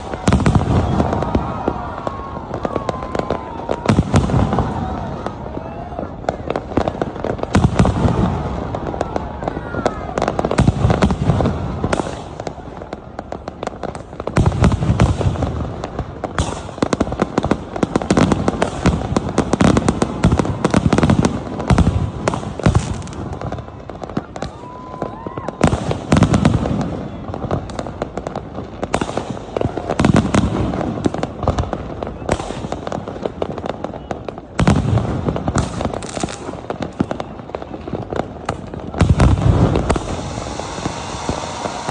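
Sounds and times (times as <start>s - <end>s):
fireworks booming: 0.0s - 41.9s
fireworks crackling: 0.0s - 41.9s
fireworks whistles: 0.0s - 41.9s.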